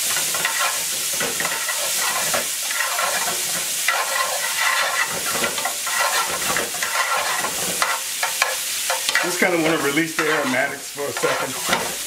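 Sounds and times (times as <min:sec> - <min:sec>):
onions sizzling in butter: 0:00.0 - 0:12.0
tongs clicking and scraping pan: 0:00.0 - 0:12.0.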